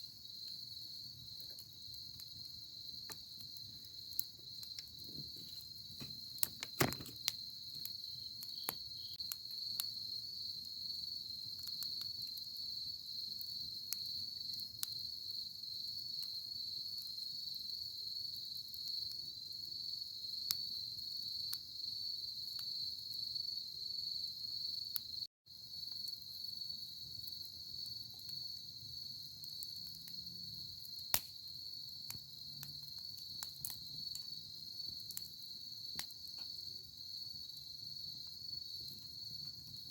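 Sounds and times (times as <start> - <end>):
high-pitched insect trill: 0.0 - 39.9
wood fire crackling and popping: 0.2 - 19.8, 25.0 - 39.9.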